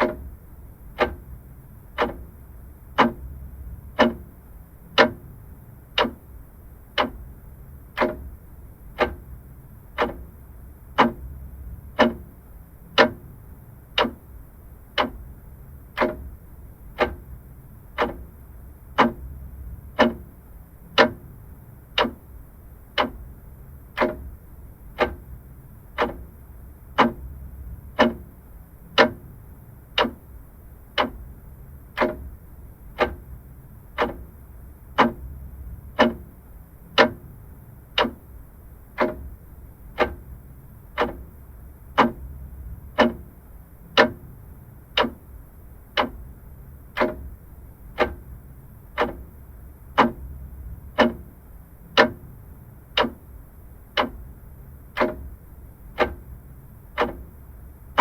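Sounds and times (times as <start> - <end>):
faint low hum: 0.0 - 58.0
mechanical clock ticking: 0.0 - 58.0.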